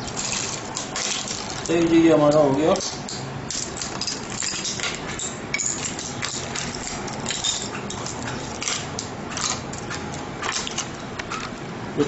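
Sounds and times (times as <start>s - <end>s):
shards clinking on stone: 0.0s - 9.7s.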